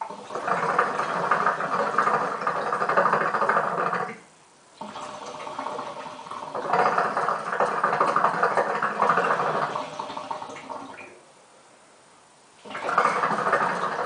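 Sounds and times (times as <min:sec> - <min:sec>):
water bubbling in hookahs: 0:00.0 - 0:11.2, 0:12.6 - 0:14.0.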